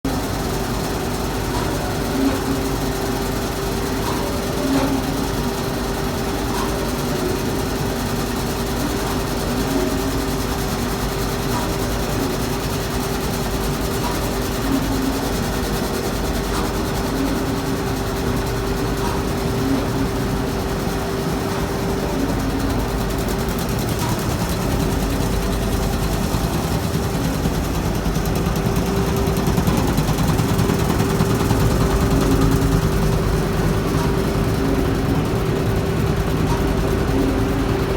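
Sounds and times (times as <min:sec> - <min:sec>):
machine humming: 0:00.1 - 0:37.9.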